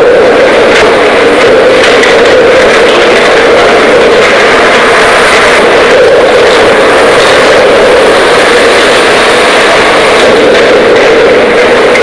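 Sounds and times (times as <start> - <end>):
excavator diesel engine roaring: 0.0 - 12.0.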